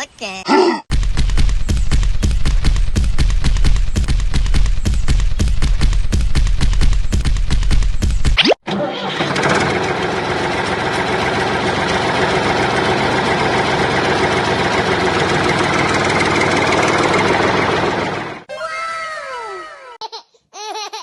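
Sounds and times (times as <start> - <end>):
tractor engine running: 0.9 - 18.5.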